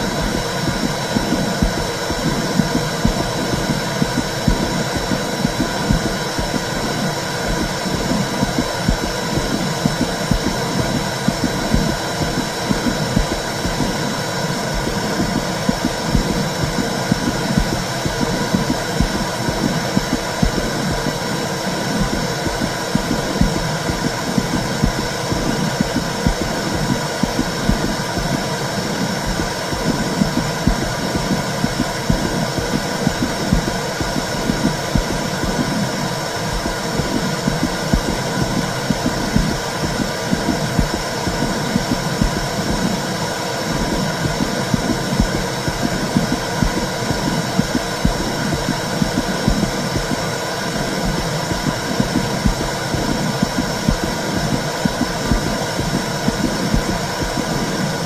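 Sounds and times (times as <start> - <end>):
rapid uneven throb: 0.0 - 58.0.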